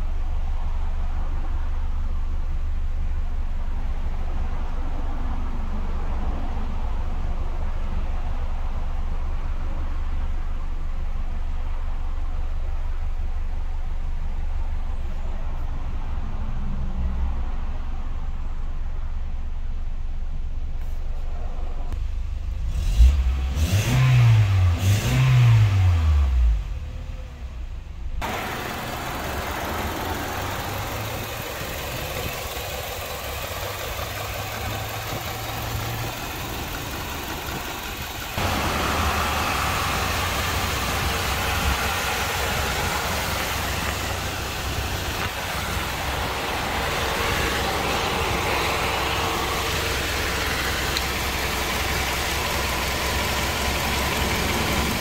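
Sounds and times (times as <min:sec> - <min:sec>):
car engine revving and idling: 0:00.0 - 0:55.0.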